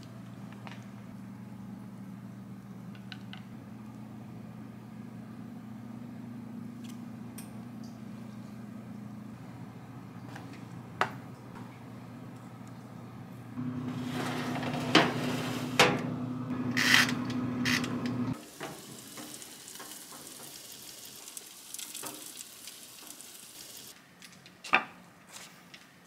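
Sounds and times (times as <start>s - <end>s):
low appliance hum: 0.0s - 26.0s.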